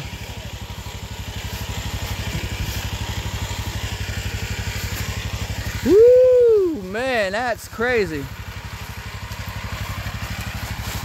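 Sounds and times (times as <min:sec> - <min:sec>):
atv engine idling: 0:00.0 - 0:11.0.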